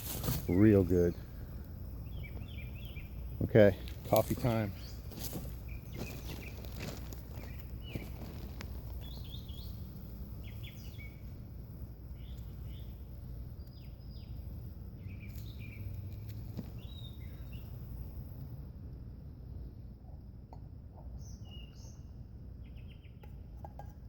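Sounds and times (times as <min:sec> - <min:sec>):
small birds chirping: 0:00.0 - 0:18.4, 0:21.0 - 0:23.8
low background rumble: 0:00.0 - 0:23.6.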